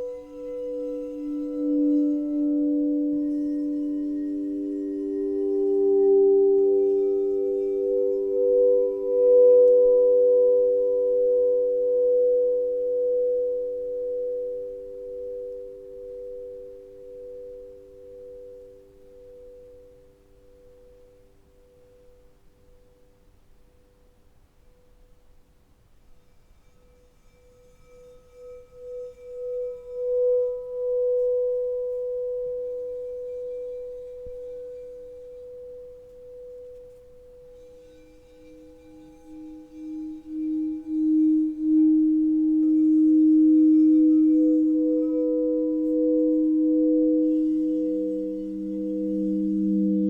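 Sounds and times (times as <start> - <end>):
higher singing bowl ringing: 0.0 - 22.2, 26.6 - 50.0
lower singing bowl ringing: 0.0 - 22.3, 26.6 - 50.0
lowest singing bowl ringing: 0.0 - 22.4, 26.3 - 50.0.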